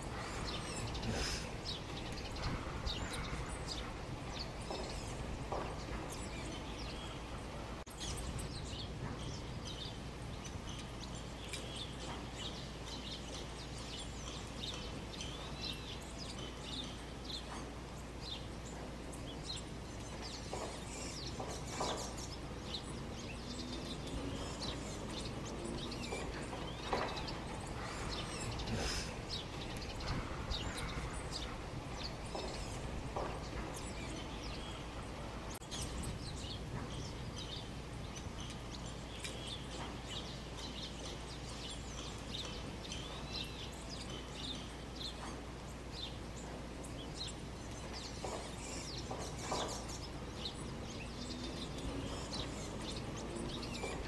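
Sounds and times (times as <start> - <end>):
outdoor background noise: 0.0 - 54.0
small birds chirping: 0.0 - 54.0.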